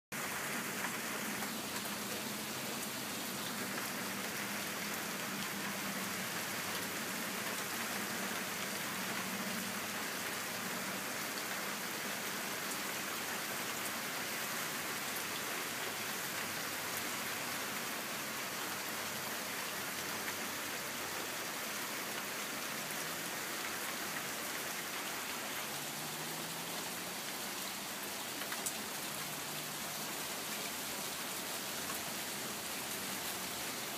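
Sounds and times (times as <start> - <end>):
raindrops hitting surfaces: 0.1 - 33.9
steady rain hiss: 0.1 - 33.9.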